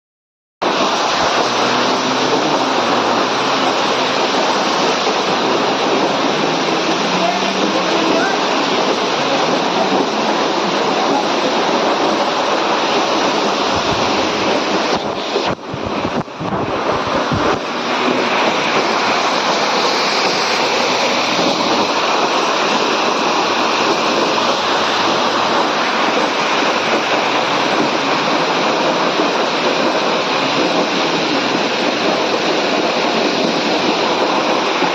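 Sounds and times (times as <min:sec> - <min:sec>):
rushing mountain torrent: 0:00.6 - 0:34.9
wind buffeting microphone: 0:00.6 - 0:34.9.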